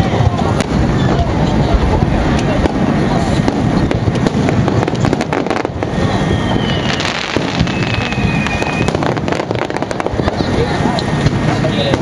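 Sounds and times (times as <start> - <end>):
fireworks bursting and crackling: 0.0 - 12.0
low rumble of reports: 0.0 - 12.0
firework whistles: 0.4 - 12.0.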